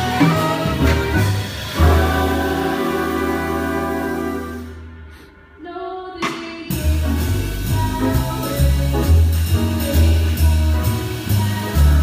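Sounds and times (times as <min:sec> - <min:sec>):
jazz band playing live: 0:00.0 - 0:05.0, 0:06.5 - 0:12.0
cymbals: 0:00.0 - 0:12.0.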